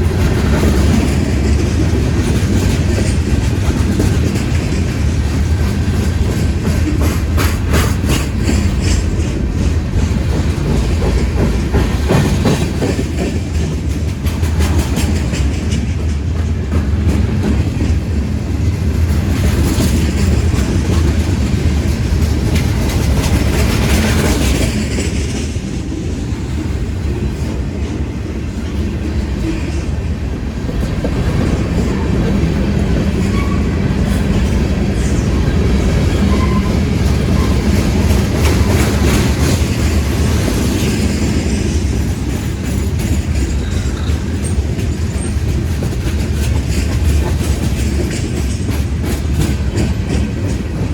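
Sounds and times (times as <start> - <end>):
wheels clicking over rail joints: 0.0 - 25.9, 26.8 - 50.9
freight train rolling past: 0.0 - 50.9.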